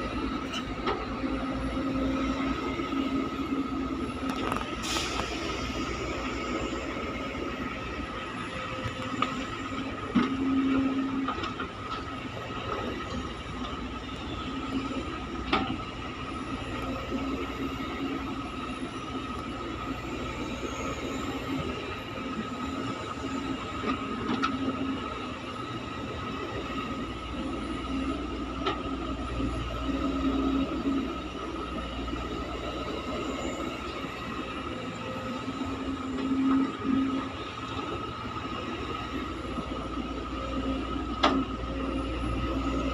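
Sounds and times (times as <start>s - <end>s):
excavator engine drone: 0.0s - 42.9s.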